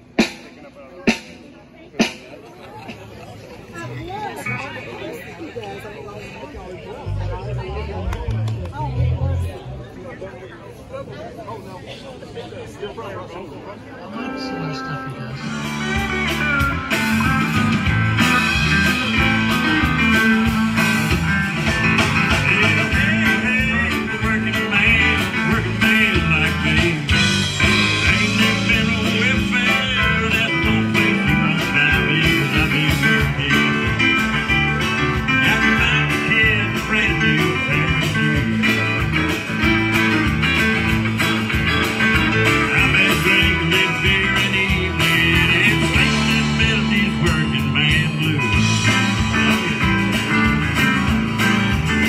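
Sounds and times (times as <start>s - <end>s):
live band playing: 0.0s - 5.8s, 6.8s - 9.9s, 14.0s - 52.0s.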